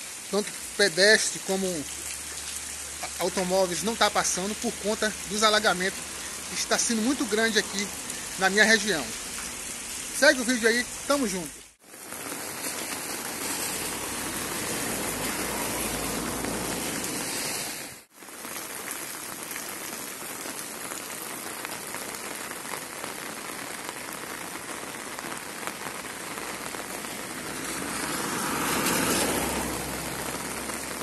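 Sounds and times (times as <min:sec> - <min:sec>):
car tyres on wet road: 0:00.0 - 0:31.0
heavy rain hissing: 0:00.0 - 0:31.0.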